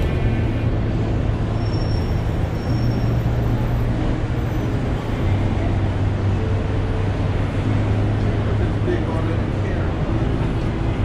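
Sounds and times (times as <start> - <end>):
street traffic engine rumble: 0.0 - 11.0.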